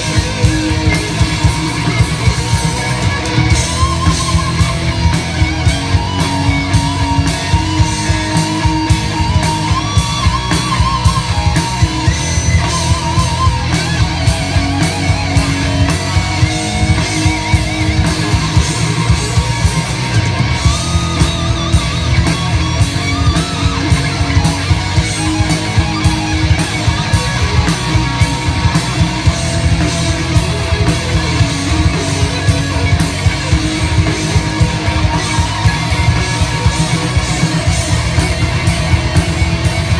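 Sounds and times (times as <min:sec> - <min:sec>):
bass: 0:00.0 - 0:39.9
driving drum beat: 0:00.0 - 0:39.9
electric guitar with vibrato: 0:00.0 - 0:39.9.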